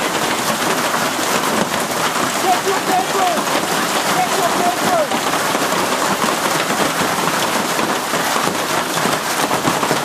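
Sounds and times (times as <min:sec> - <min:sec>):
hail and rain pelting: 0:00.0 - 0:10.0.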